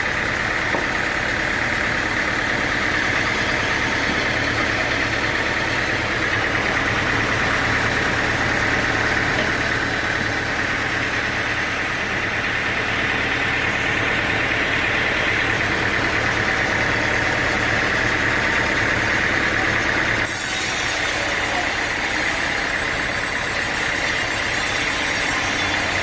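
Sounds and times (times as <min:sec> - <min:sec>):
sawmill machinery drone and whine: 0:00.0 - 0:26.0.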